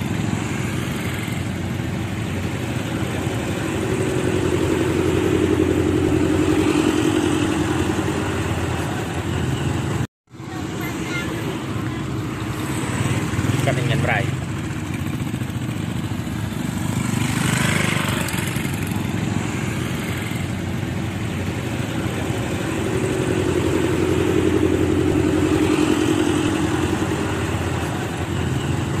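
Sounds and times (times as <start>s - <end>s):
backhoe diesel engine droning: 0.0s - 29.0s
scooter and motorcycle engines: 0.0s - 29.0s.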